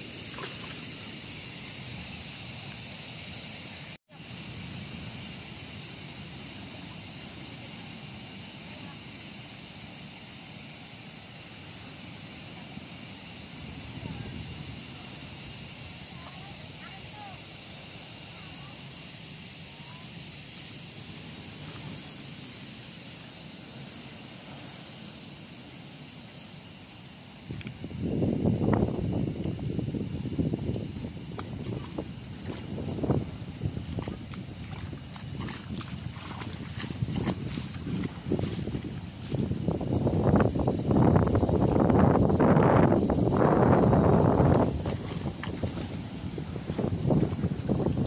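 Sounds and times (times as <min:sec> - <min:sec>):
sea surf on rocky shore: 0:03.4 - 0:48.0.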